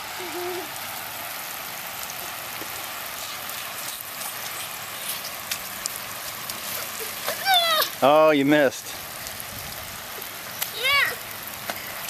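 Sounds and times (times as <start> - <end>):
sprinkler water spraying: 0.0 - 12.0.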